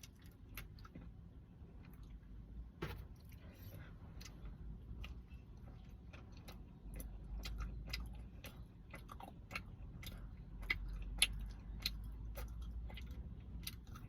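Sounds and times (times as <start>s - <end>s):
person chewing a cookie: 0.0s - 14.0s.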